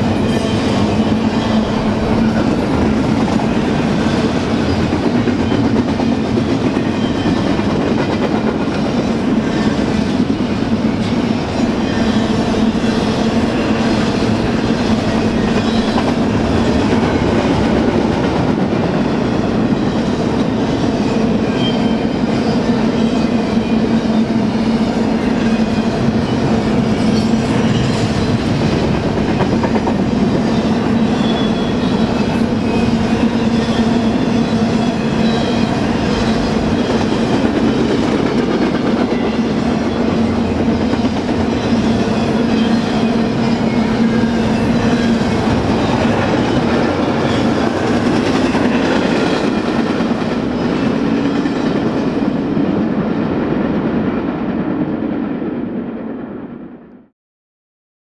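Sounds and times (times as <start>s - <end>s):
train wheels rumbling on rails: 0.0s - 56.7s.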